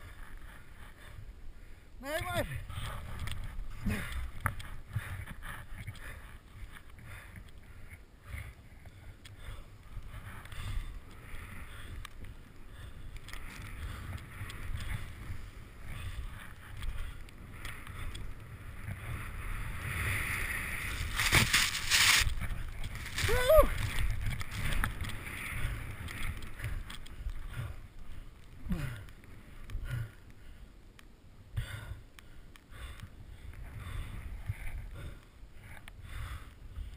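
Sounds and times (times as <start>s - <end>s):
wind buffeting camera: 2.2s - 30.4s, 31.4s - 36.9s.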